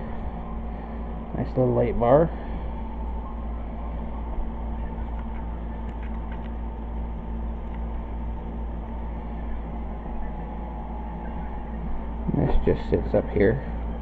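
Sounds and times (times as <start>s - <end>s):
electric cooling fans humming: 0.0s - 14.0s
steady low tones: 0.0s - 14.0s.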